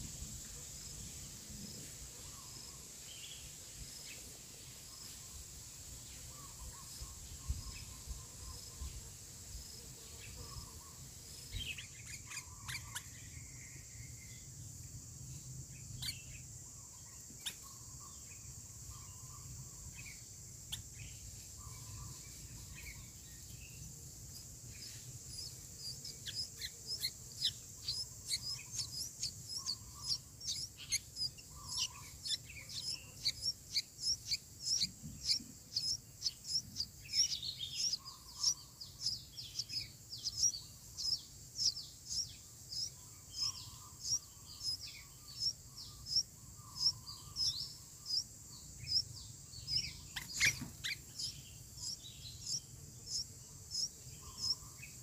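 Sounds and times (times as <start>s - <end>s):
high insect drone: 0.0s - 55.0s
nestlings begging with high chirps: 2.2s - 55.0s.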